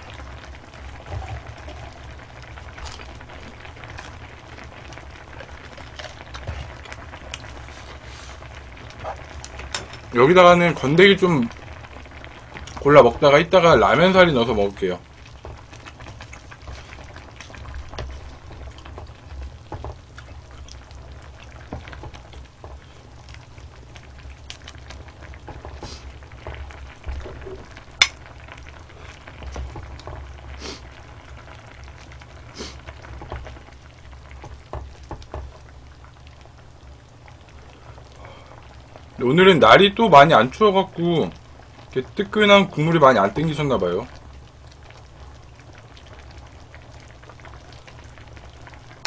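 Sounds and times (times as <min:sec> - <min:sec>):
stew bubbling in a pot: 0:00.0 - 0:49.0.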